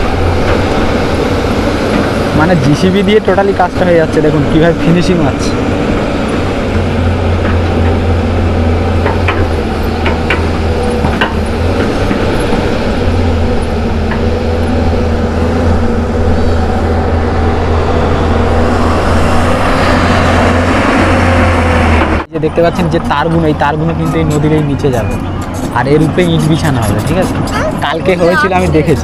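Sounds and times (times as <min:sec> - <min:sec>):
excavator diesel engine humming: 0:00.0 - 0:29.0.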